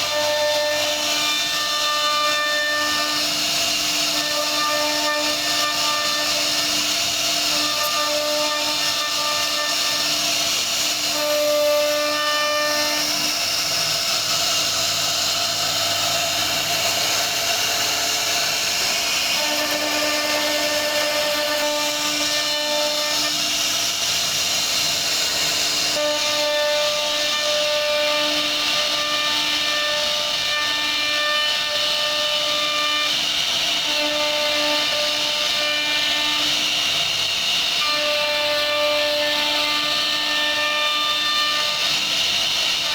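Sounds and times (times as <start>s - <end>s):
high spindle whine: 0.0s - 42.9s
hiss of wood cutting: 0.0s - 42.9s.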